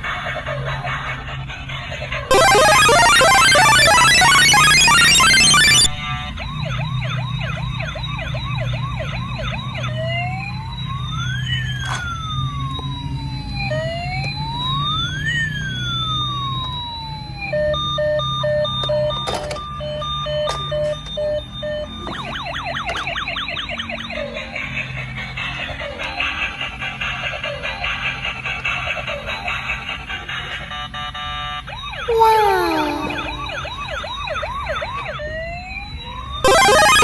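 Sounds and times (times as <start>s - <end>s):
toy electronic siren: 2.3s - 37.0s.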